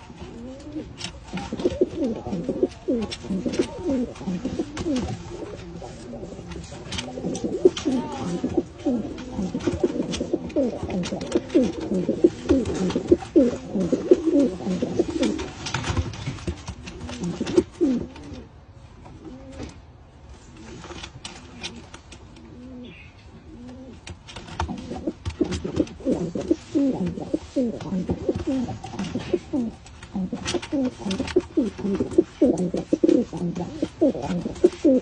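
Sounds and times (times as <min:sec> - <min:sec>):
pigeons cooing: 0:00.0 - 0:19.9, 0:21.5 - 0:35.0.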